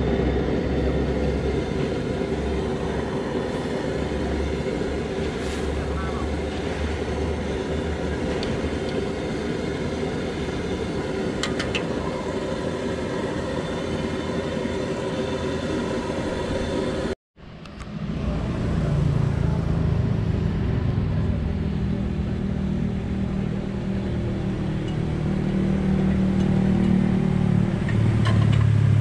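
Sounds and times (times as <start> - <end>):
gas wok burner roaring: 0.0 - 17.2, 17.8 - 29.0.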